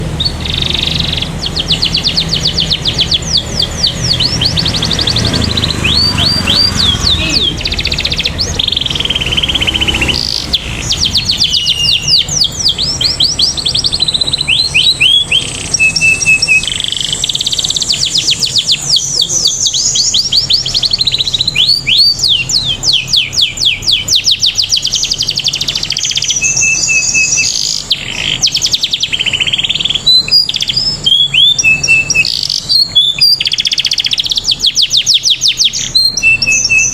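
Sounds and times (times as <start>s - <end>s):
canary singing trills: 0.0s - 36.9s.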